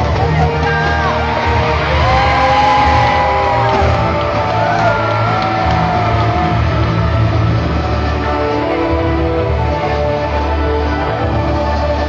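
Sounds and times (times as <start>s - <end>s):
loud music with singing and bass: 0.0s - 12.0s.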